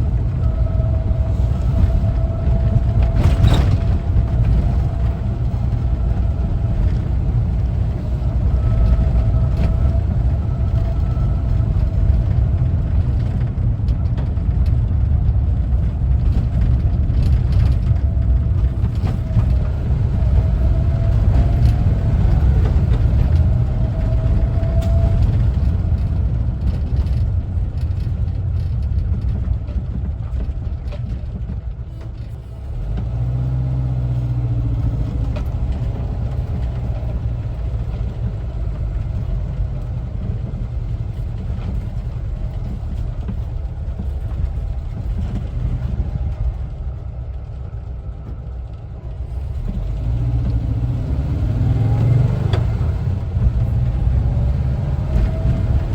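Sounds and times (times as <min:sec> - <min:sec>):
road rumble: 0:00.0 - 0:55.9
van engine running: 0:00.0 - 0:55.9.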